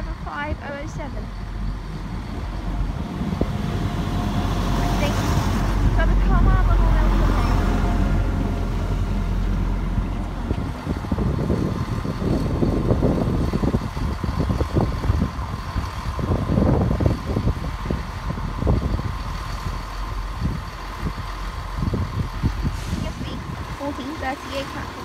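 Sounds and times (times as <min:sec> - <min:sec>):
diesel train engine rumbling: 0:00.0 - 0:25.0.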